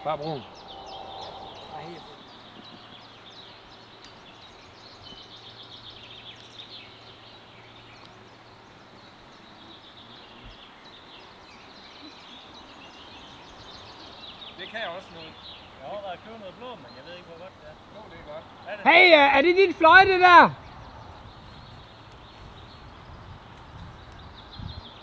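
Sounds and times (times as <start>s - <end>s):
outdoor background noise: 0.0s - 25.0s
small birds chirping: 0.0s - 25.0s.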